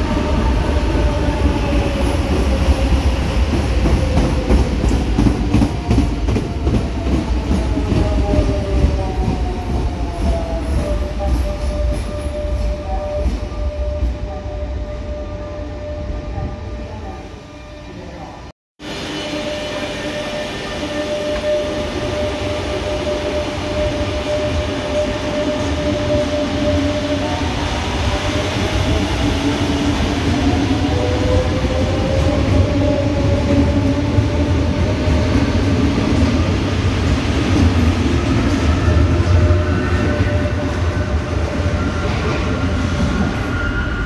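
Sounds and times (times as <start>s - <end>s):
train wheels rumbling on rails: 0.0s - 14.4s, 19.0s - 44.0s.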